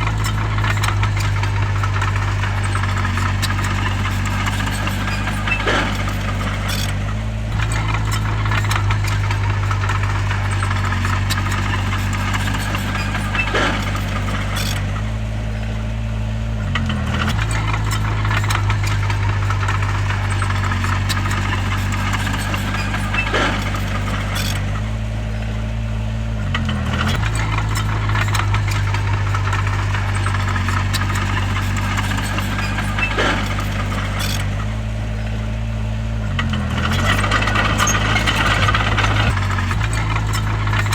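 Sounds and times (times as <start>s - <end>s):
bulldozer diesel engine: 0.0s - 40.9s
tracks and stone clanking: 0.0s - 40.9s.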